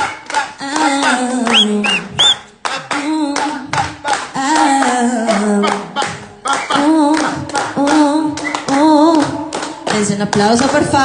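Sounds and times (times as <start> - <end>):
audience clapping a rhythm: 0.0 - 11.0
woman singing a cappella: 0.6 - 2.2, 2.9 - 11.0.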